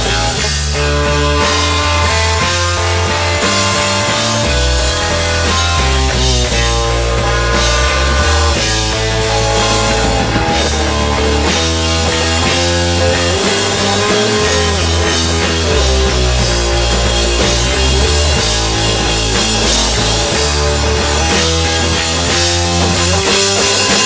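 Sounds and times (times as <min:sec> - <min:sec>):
bass guitar line: 0:00.0 - 0:24.0
drum kit: 0:00.0 - 0:24.0
electric guitar: 0:00.0 - 0:24.0.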